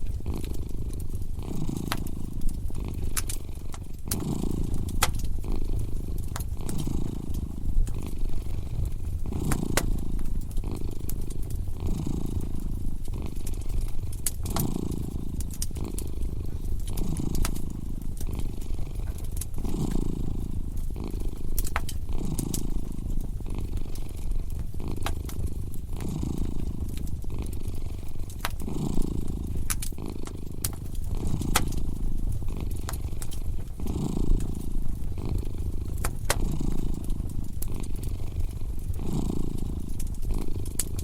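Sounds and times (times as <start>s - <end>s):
cat purring: 0.0s - 41.0s
wood fire crackling: 0.0s - 41.0s.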